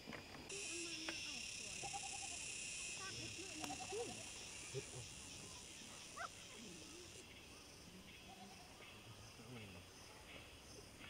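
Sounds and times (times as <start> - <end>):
high-pitched insect chorus: 0.1 - 11.0.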